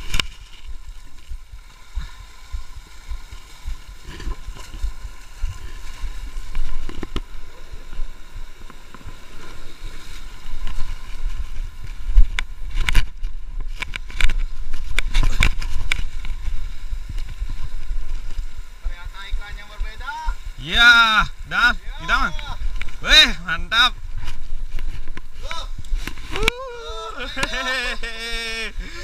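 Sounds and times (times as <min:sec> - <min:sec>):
sea surf washing against rocks: 0:00.0 - 0:29.0
wind rumbling on microphone: 0:00.0 - 0:29.0.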